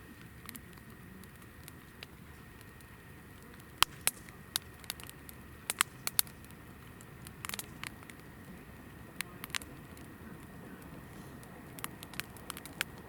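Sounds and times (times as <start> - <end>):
fire hissing: 0.0 - 13.0
firewood crackling and popping: 0.0 - 13.0.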